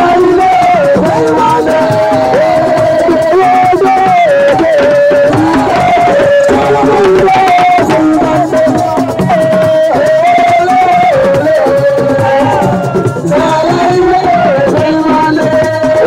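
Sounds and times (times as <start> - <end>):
fast hand drumming: 0.0 - 16.0.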